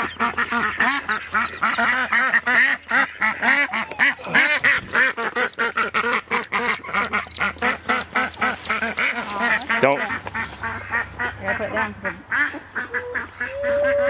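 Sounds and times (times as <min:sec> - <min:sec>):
duckling peeping: 0:00.0 - 0:14.0
ducks quacking rapidly: 0:00.0 - 0:14.0.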